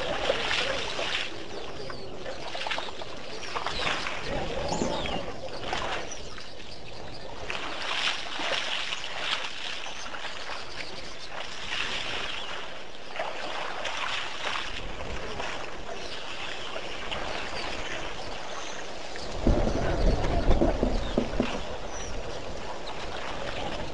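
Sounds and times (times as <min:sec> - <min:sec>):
elephants splashing water: 0:00.0 - 0:23.9.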